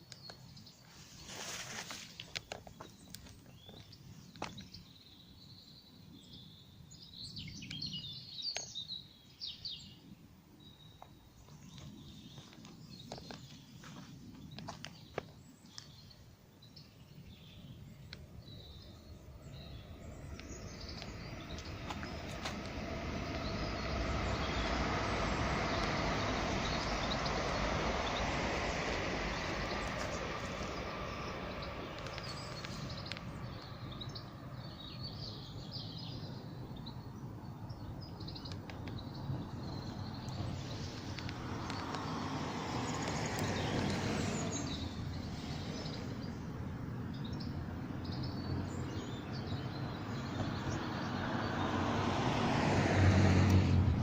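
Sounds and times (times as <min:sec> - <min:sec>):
small birds chirping: 0:00.0 - 0:52.0
vehicles passing: 0:00.2 - 0:05.2, 0:10.6 - 0:54.0.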